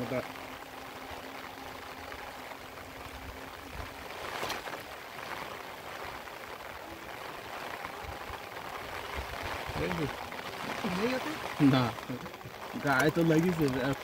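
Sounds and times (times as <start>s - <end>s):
faint steady hum: 0.0s - 14.0s
rain falling: 0.0s - 14.0s.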